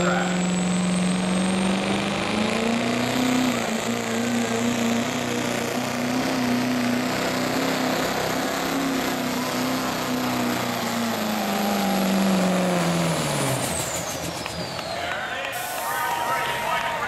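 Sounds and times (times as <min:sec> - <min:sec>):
diesel engine at high revs: 0:00.0 - 0:17.0.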